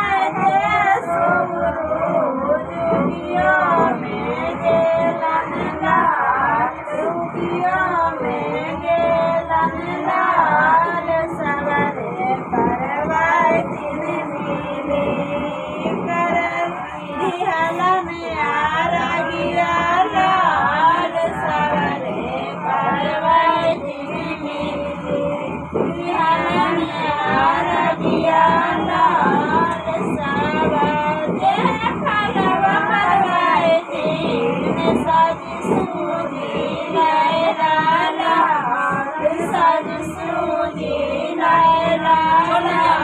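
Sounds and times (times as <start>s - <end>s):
music backing: 0.0s - 43.0s
voices singing melodic song: 0.0s - 43.0s.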